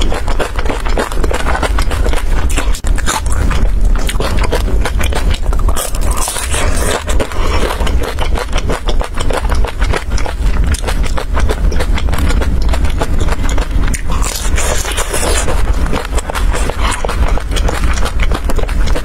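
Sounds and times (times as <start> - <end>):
crunchy chewing of crispy food: 0.0 - 19.0
low rumble: 0.0 - 19.0.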